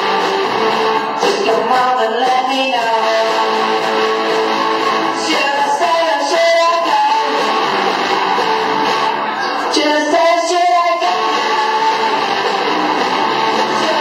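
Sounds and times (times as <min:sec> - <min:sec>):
live rock band playing: 0:00.0 - 0:14.0
person singing: 0:00.0 - 0:14.0
strummed guitar: 0:00.0 - 0:14.0.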